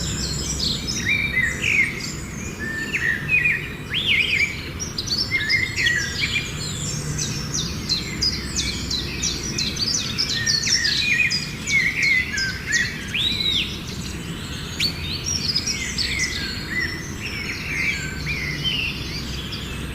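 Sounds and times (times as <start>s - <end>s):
songbird singing: 0.0s - 19.9s.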